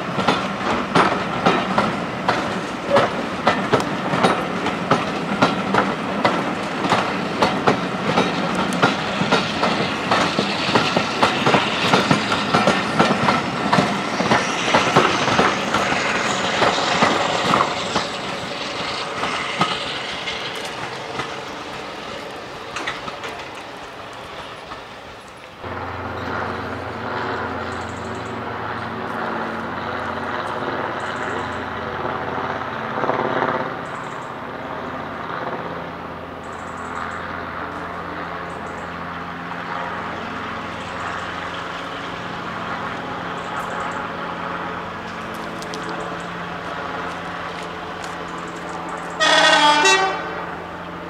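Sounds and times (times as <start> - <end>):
train wheels clicking over rail joints: 0.0 - 34.4, 39.8 - 50.1
diesel locomotive engine drone: 0.0 - 51.0.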